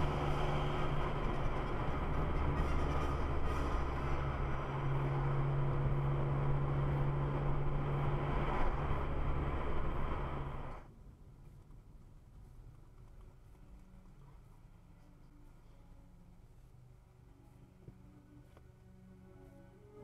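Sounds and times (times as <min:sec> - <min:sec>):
car road rumble and engine drone: 0:00.0 - 0:20.0
faint low hum: 0:00.0 - 0:20.0.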